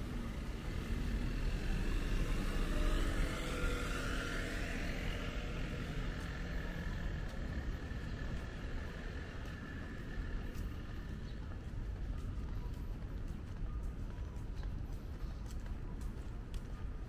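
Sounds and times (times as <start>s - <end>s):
car passing: 0.0s - 14.4s
low rumble of traffic: 0.0s - 17.0s.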